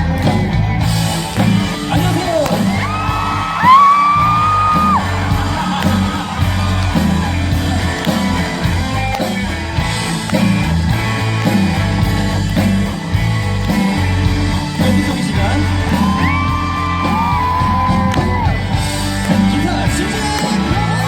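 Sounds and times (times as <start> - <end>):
live pop-rock band: 0.0 - 21.0.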